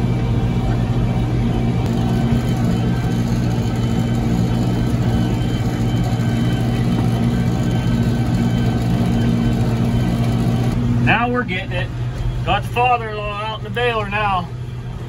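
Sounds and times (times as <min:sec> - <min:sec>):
tractor engine running steadily: 0:00.0 - 0:15.0.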